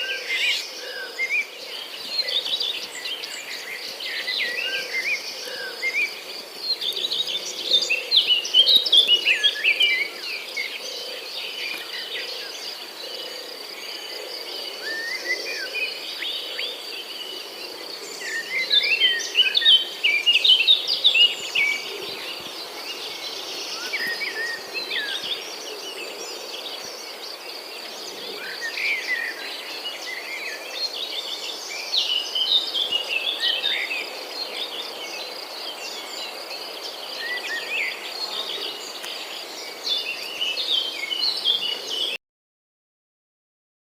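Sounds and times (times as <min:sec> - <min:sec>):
birds chirping and singing: 0:00.0 - 0:42.2.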